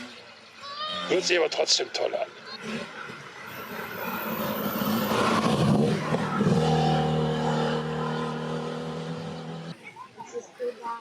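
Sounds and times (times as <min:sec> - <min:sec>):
rally car engine driving by: 0:00.0 - 0:09.8.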